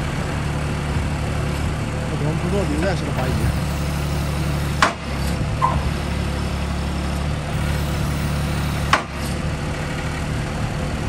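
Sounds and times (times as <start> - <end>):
loader engine idling: 0.0 - 11.0.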